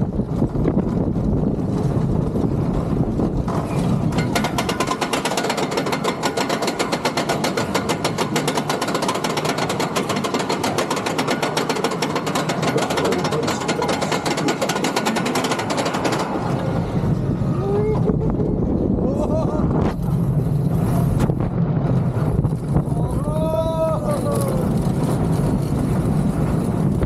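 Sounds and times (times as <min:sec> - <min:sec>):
wind noise: 0:00.0 - 0:12.0, 0:15.2 - 0:27.0
roller coaster clacking: 0:00.0 - 0:27.0.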